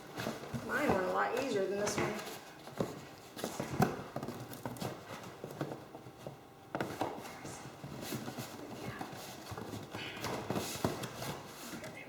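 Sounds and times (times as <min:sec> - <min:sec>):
knocks taps and scrapes on furniture: 0:00.0 - 0:12.0.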